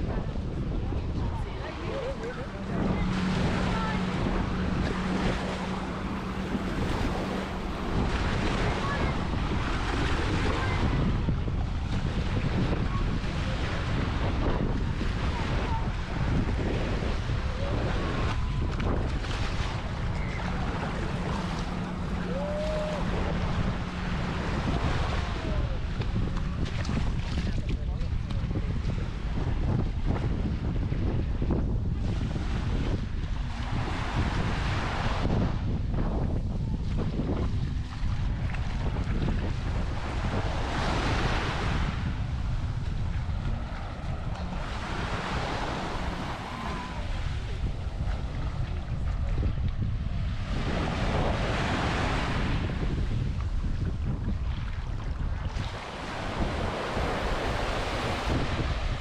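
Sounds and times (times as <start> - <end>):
surf washing onto beach: 0.0 - 59.0
wind buffeting microphone: 0.0 - 59.0.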